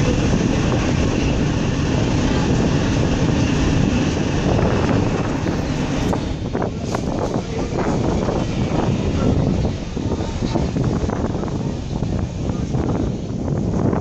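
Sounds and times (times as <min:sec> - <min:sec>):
ferry engines rumbling: 0:00.0 - 0:14.0
wind on microphone: 0:00.0 - 0:14.0.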